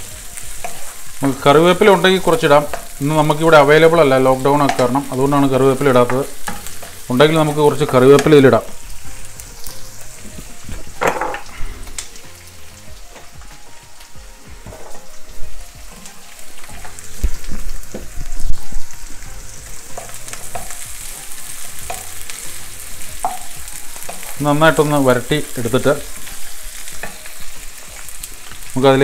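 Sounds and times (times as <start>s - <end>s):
onion sizzling in hot oil: 0.0s - 29.0s.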